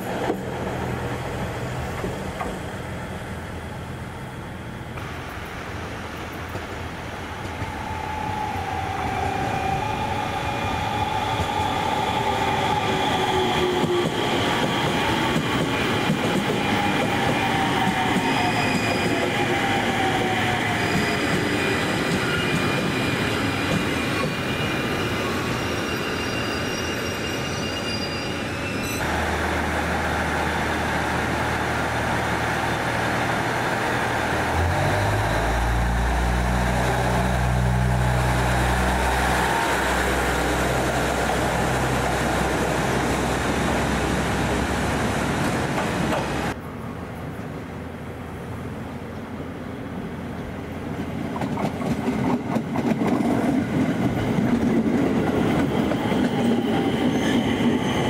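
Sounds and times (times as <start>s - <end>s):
electric train hum: 0.0s - 58.0s.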